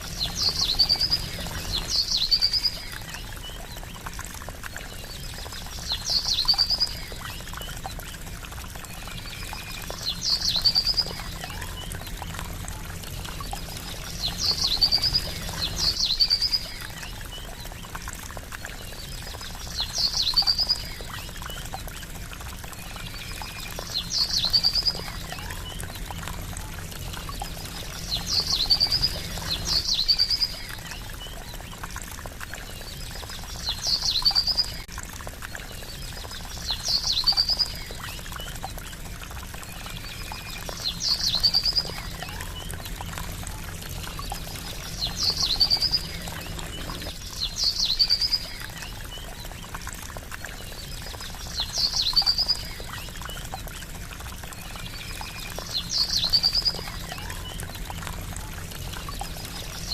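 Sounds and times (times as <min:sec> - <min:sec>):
songbird chirping: 0:00.0 - 0:34.9, 0:35.6 - 0:53.6
babbling water: 0:00.0 - 0:59.9.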